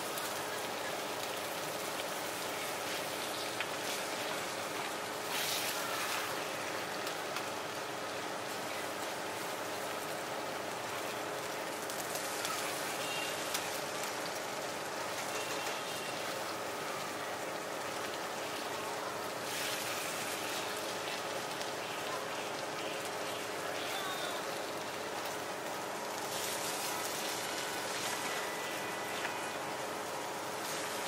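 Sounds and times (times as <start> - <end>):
potato cakes sizzling in oil: 0.0 - 31.0.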